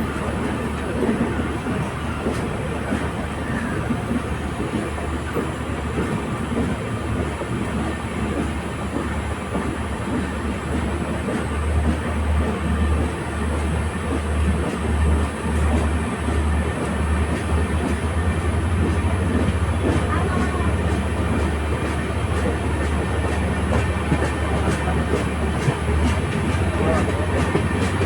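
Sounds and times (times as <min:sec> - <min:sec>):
train rumble and rushing: 0:00.0 - 0:28.0
wheels clickety-clack on rails: 0:00.0 - 0:28.0.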